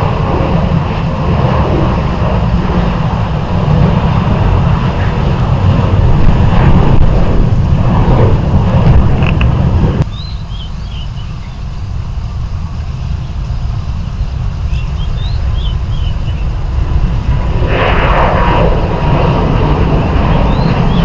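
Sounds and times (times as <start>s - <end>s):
distant jet engines rumbling: 0.0s - 21.0s.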